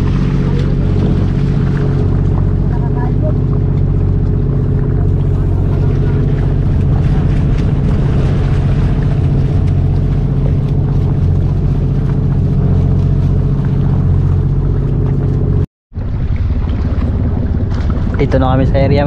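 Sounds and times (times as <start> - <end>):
motorboat engine droning: 0.0 - 19.0.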